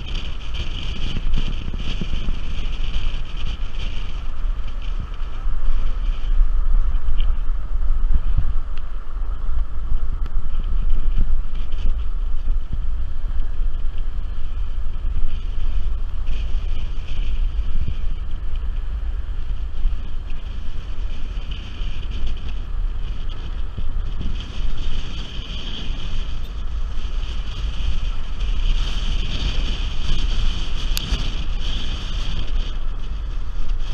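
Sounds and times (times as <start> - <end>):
car rumble on road: 0.0 - 33.9
wind noise on microphone: 0.0 - 33.9.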